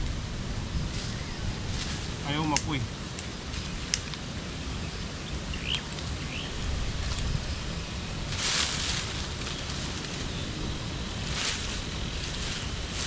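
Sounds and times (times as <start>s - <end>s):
wind on microphone: 0.0s - 4.6s, 5.3s - 13.0s
dry leaves and twigs crackling: 0.0s - 13.0s.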